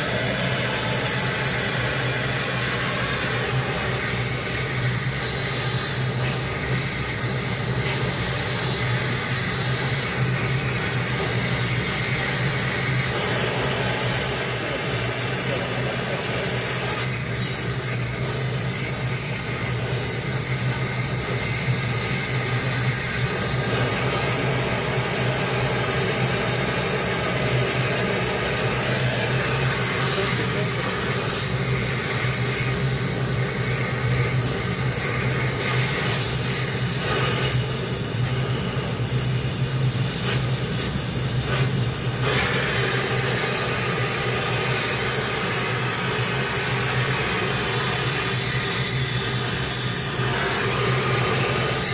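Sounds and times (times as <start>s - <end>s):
welding torch flame hissing: 0.0s - 51.9s.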